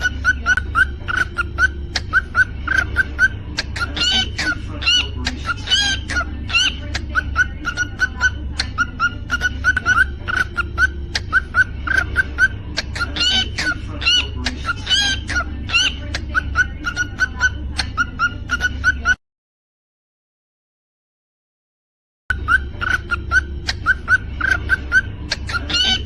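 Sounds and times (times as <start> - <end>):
cockatiel chirping and whistling: 0.0 - 19.2, 22.3 - 26.0.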